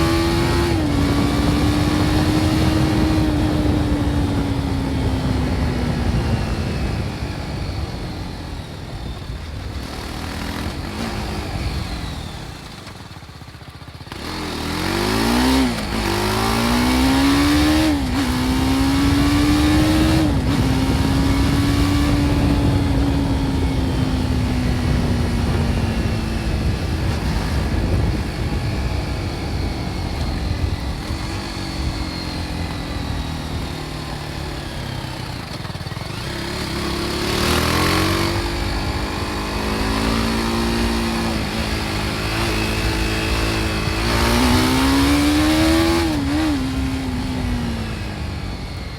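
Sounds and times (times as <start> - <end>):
wind rush: 0.0 - 12.8, 14.1 - 48.8
motorcycle engine revving: 0.0 - 48.9.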